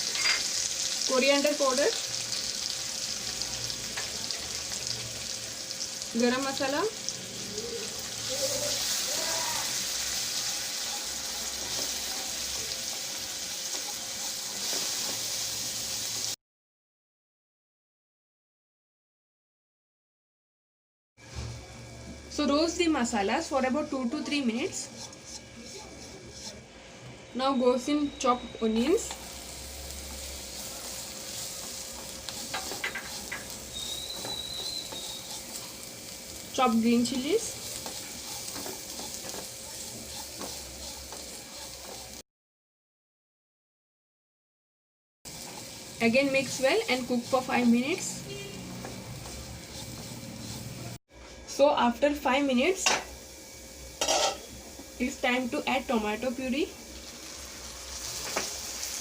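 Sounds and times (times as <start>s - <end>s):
spices sizzling in hot ghee: 0.0s - 16.4s, 22.2s - 26.7s, 27.3s - 42.2s, 45.3s - 59.0s.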